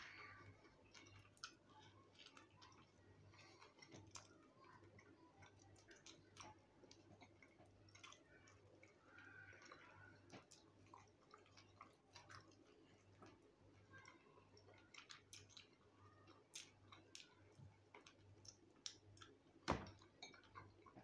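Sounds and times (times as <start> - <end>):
chewing and lip smacking: 0.3 - 21.0.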